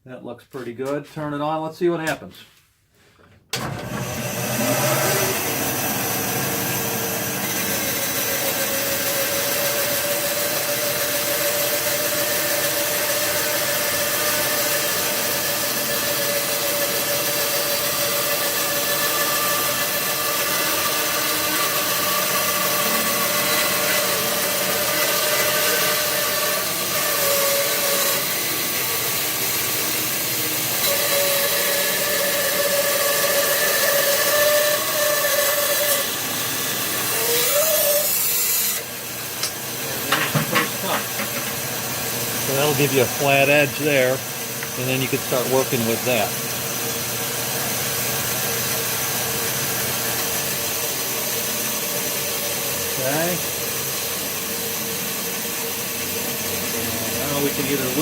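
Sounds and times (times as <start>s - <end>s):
bandsaw cutting log: 3.6s - 58.0s.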